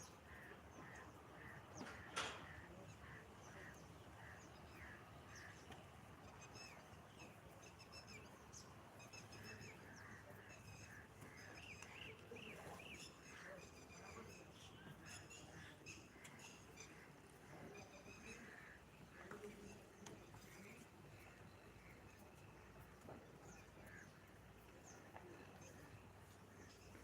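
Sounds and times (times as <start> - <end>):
low steady background noise: 0.0 - 27.0
small birds chirping: 0.0 - 27.0.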